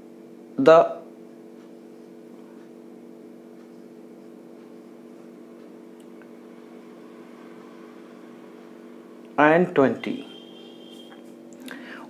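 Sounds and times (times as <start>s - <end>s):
low hum of held tones: 0.0s - 12.0s.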